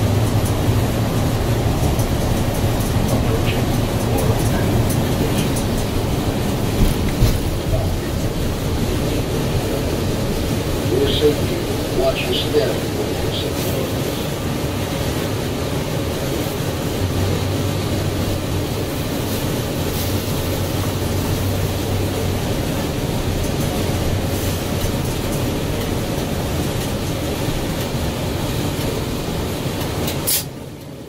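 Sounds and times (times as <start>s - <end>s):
bus engine drone: 0.0s - 31.0s
road and cabin noise: 0.0s - 31.0s.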